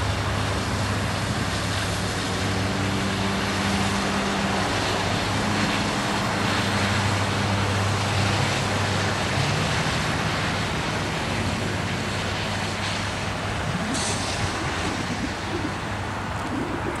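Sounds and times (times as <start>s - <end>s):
diesel locomotive engine hum: 0.0s - 17.0s.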